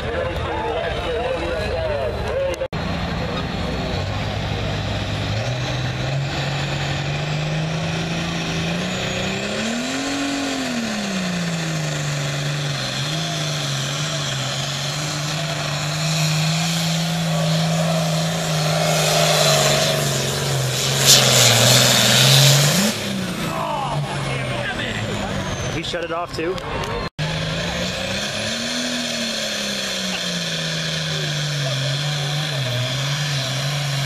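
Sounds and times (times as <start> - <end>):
tractor engine under load: 0.0 - 34.0.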